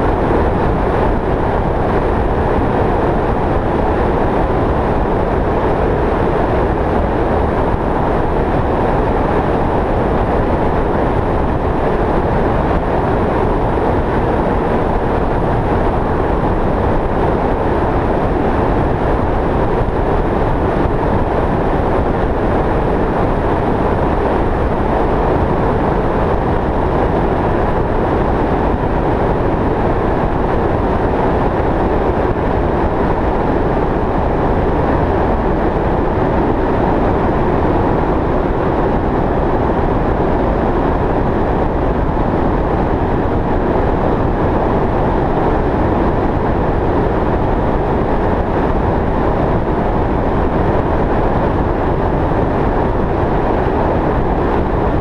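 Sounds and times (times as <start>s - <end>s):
vehicle road noise at speed: 0.0s - 55.0s.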